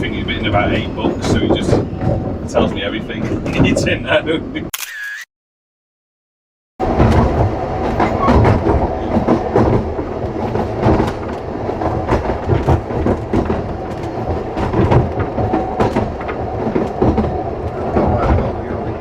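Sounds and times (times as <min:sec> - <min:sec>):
wheels clacking over rail joints: 0:00.0 - 0:04.3, 0:06.8 - 0:19.0
train rumbling along track: 0:00.0 - 0:04.7, 0:06.8 - 0:19.0.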